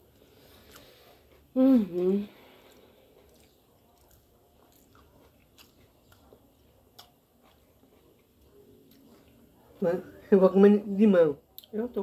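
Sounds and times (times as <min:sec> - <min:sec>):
faint chewing: 0:00.1 - 0:09.8.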